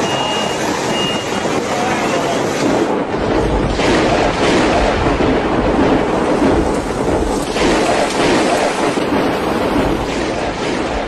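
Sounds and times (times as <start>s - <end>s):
hail on a tile roof: 0.0s - 11.0s.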